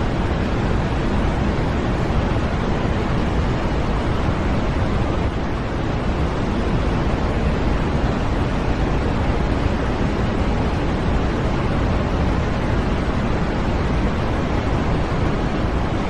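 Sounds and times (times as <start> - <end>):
white noise hiss: 0.0 - 16.0.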